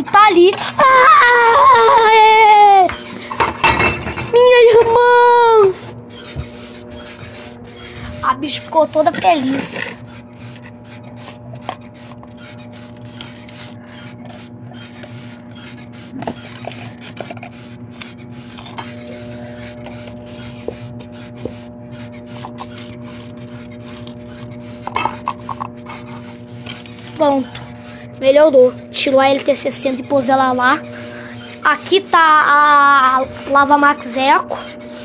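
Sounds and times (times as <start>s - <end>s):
plastic cups rubbing on tile: 0.0s - 35.0s
steady hum: 0.0s - 35.0s.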